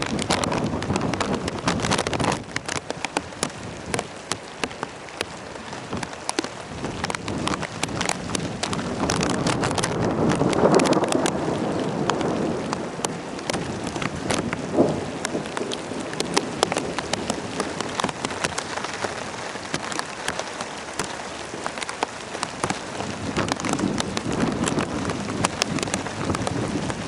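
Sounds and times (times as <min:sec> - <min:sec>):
rain falling: 0:00.0 - 0:27.0
raindrops hitting hard surfaces: 0:00.0 - 0:27.0.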